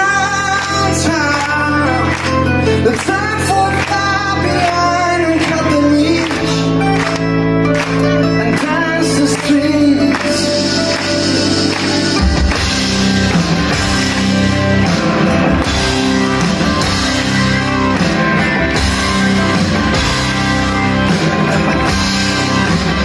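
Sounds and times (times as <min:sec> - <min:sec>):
drum kit: 0:00.0 - 0:23.0
electric guitars: 0:00.0 - 0:23.0
live rock band playing: 0:00.0 - 0:23.0.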